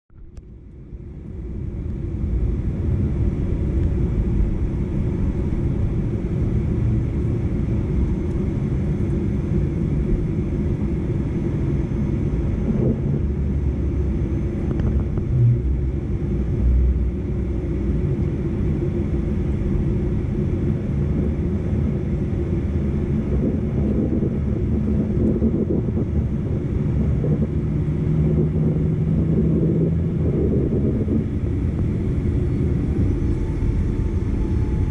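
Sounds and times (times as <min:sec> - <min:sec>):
airplane cabin rumble: 0:00.1 - 0:34.9.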